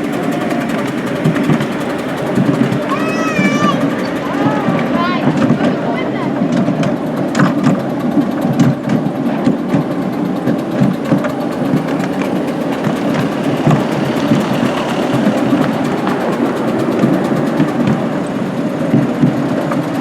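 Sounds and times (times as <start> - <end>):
locomotive engine chugging: 0.0 - 20.0.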